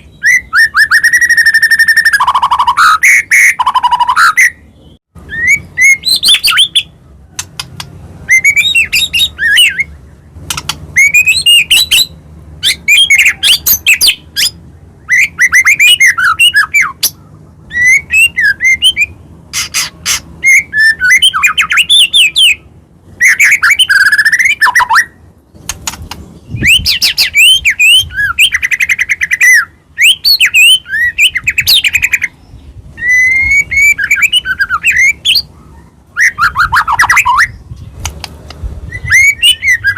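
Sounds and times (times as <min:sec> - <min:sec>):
bird singing whistles and trills: 0:00.0 - 0:07.4, 0:08.2 - 0:25.2, 0:26.4 - 0:38.0, 0:38.8 - 0:39.9.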